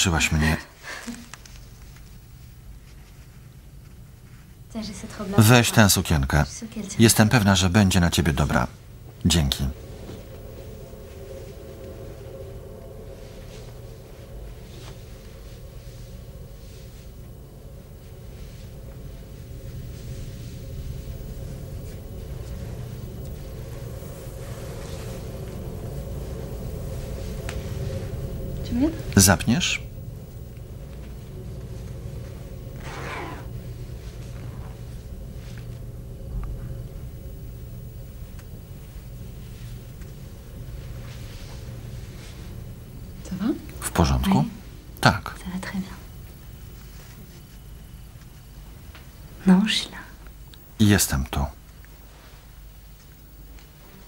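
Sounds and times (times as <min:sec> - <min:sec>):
soft rustles: 0:00.8 - 0:05.7, 0:08.2 - 0:50.8, 0:51.5 - 0:54.0
low rumbling drone: 0:06.2 - 0:50.8.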